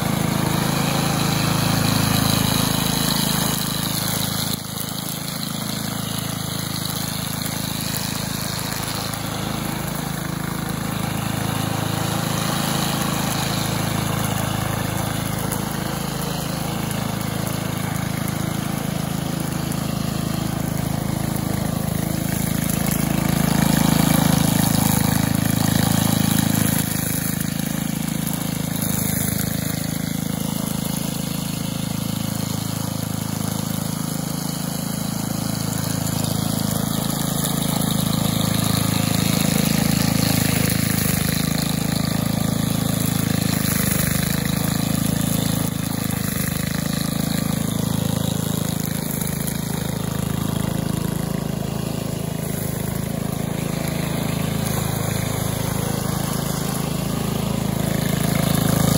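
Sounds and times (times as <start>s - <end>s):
string trimmer engine running: 0.0s - 58.9s.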